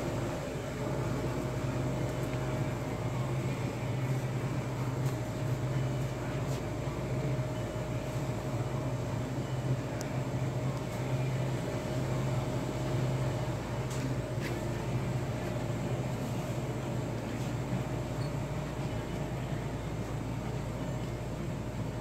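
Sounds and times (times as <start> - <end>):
ventilation machinery hum: 0.0 - 22.0.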